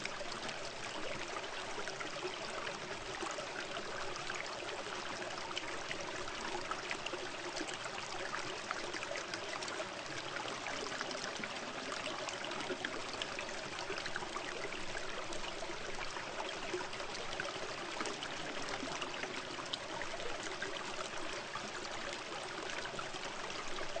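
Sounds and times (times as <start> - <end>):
trickling water: 0.0 - 24.0.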